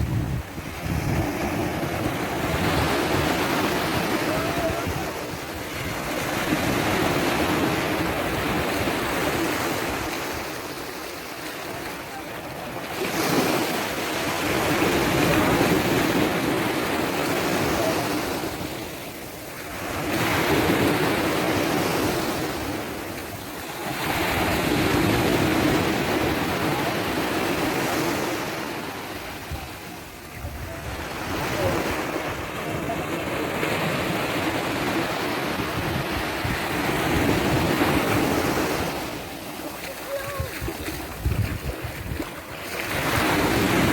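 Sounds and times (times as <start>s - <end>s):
waves breaking on a beach: 0.0s - 43.9s.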